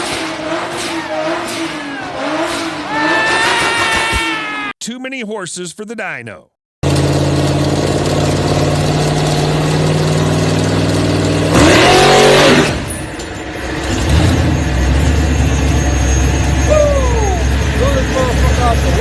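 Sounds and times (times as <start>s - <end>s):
car engine at high revs: 0.0s - 4.1s, 6.8s - 19.0s.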